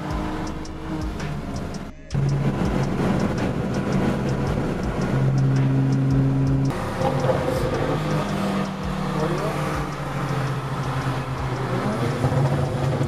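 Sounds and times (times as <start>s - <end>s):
background music with hi-hat beat: 0.0s - 13.0s
car engine and road noise: 0.0s - 13.0s.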